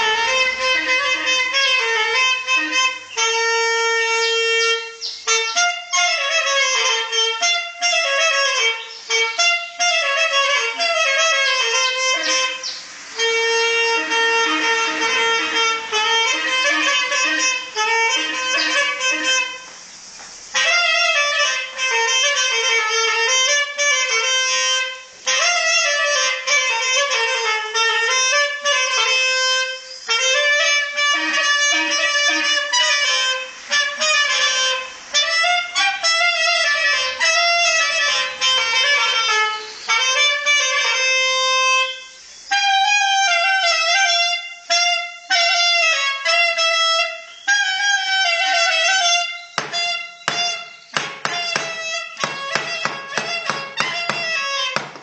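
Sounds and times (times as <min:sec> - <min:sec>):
solo clarinet melody: 0:00.0 - 0:55.0.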